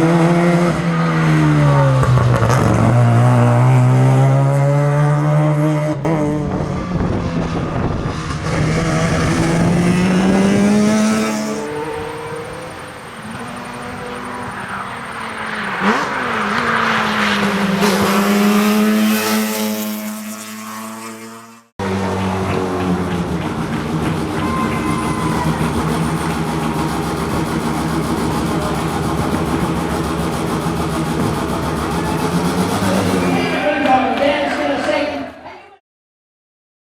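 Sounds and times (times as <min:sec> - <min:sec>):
rotary engine accelerating hard: 0:00.0 - 0:33.7.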